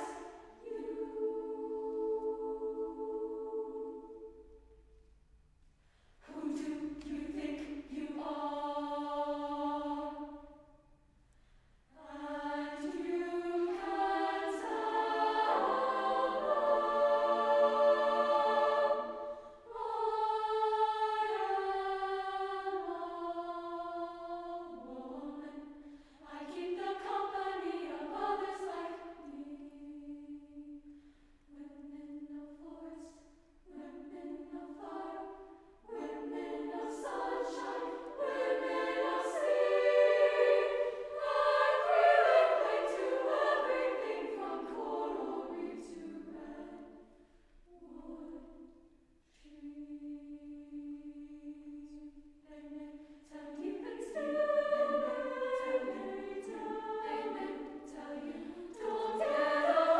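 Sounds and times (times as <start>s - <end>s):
choir singing chords: 0.0s - 5.3s, 6.1s - 59.9s
choir breaths: 0.0s - 59.9s.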